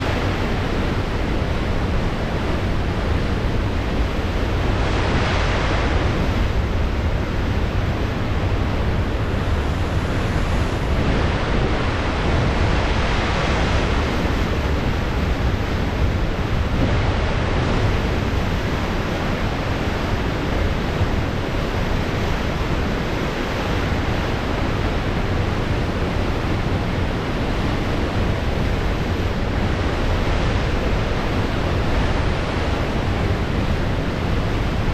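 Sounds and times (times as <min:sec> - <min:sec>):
waves breaking: 0:00.0 - 0:34.9
wind rumble on microphone: 0:00.0 - 0:34.9.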